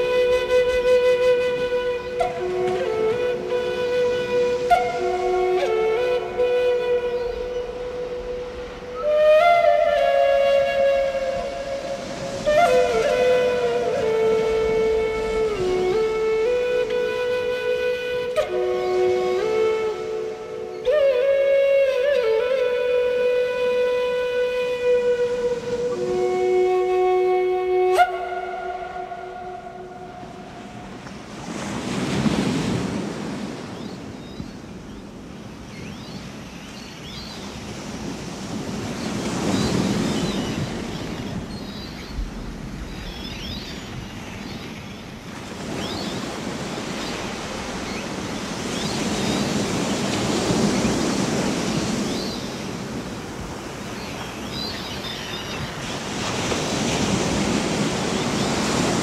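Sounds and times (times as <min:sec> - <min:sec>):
ocean waves surging: 0:00.0 - 0:59.0.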